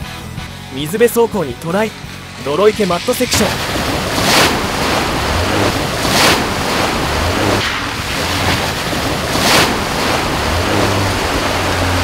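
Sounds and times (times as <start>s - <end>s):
low engine hum: 0.4s - 12.0s
muddy water splashing: 1.4s - 12.0s.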